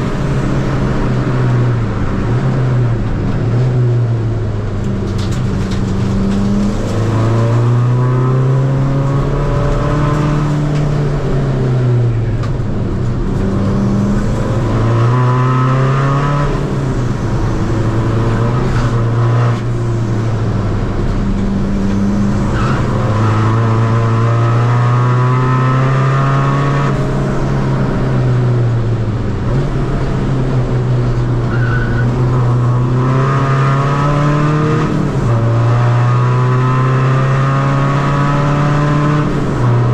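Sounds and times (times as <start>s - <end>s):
diesel car engine accelerating: 0.0s - 39.9s.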